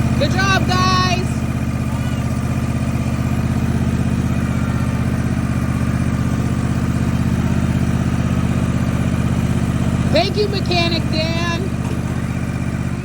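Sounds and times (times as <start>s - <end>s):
farm vehicle engine idling: 0.0s - 13.0s.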